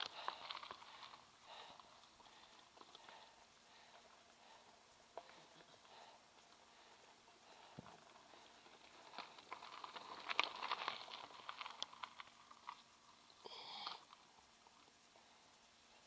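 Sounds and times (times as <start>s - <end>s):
bike tyres crunching over stones: 0.0s - 15.1s.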